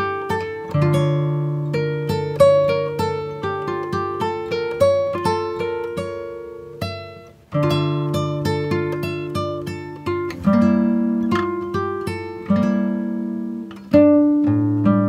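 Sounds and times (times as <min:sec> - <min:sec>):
acoustic guitar picking melody: 0:00.0 - 0:15.0.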